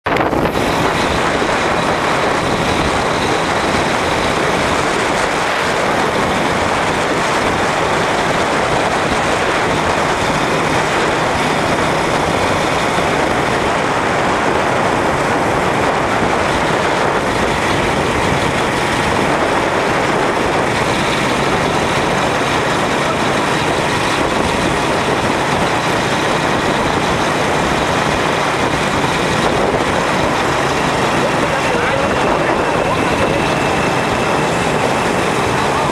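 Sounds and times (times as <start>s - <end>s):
engine hum: 0.0s - 35.9s
road and wind noise: 0.0s - 35.9s.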